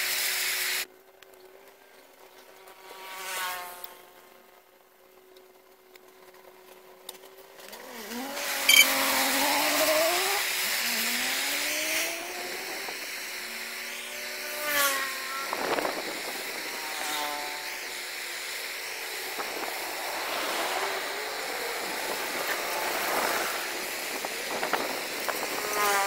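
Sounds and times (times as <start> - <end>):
engine whining: 0.8 - 26.0.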